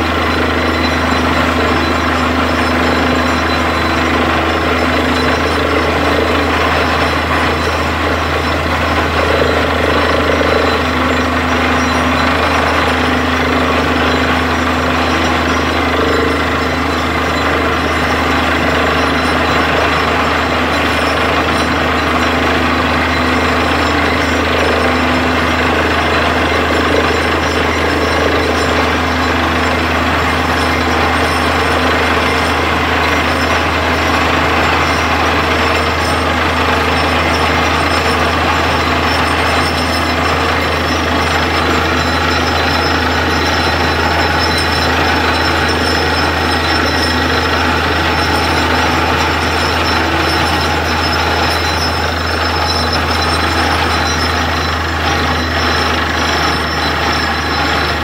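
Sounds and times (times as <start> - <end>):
drill hammering: 0.0 - 58.0
engine and compressor drone: 0.0 - 58.0.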